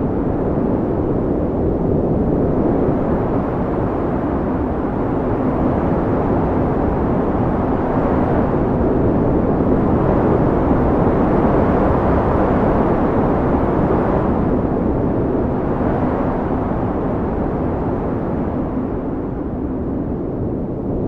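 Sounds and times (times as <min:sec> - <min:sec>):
deep wind blowing: 0:00.0 - 0:21.0.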